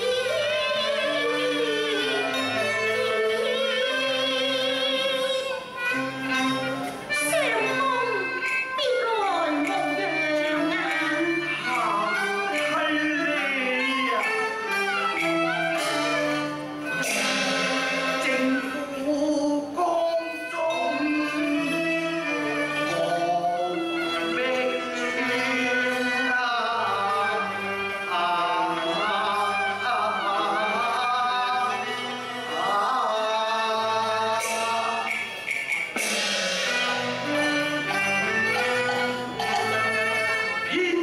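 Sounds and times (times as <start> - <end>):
instrumental ensemble melody: 0.0 - 41.0.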